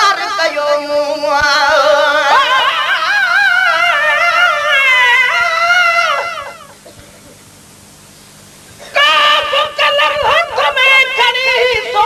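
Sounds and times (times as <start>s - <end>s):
person singing with vibrato: 0.0s - 6.8s, 8.8s - 12.0s.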